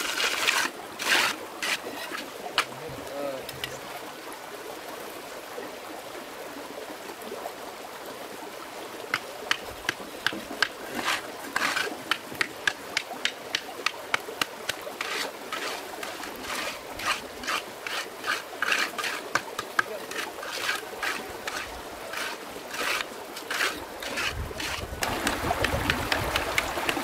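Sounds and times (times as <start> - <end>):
stream water running: 0.0 - 27.0.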